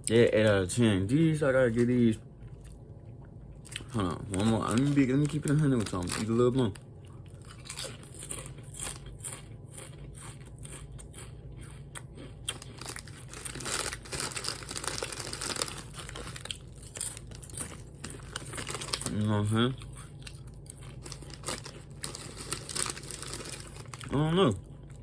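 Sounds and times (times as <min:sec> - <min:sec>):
potato chips crunching: 0:03.6 - 0:25.0.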